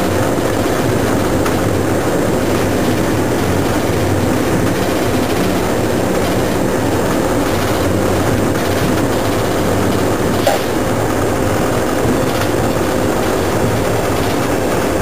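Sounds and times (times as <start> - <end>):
locomotive engine drone: 0.0 - 15.0
train rumbling along track: 0.0 - 15.0.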